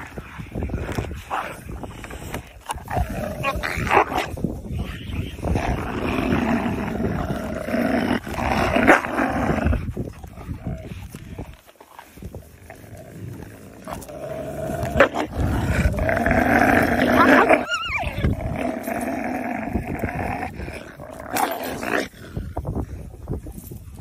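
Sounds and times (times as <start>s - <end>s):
wolves growling and snarling: 0.0s - 23.0s.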